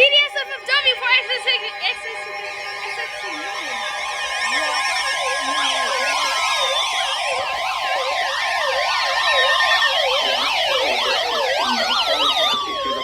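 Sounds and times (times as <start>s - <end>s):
siren-like warbling tones: 0.0s - 13.0s
steady alarm tone: 0.0s - 13.0s.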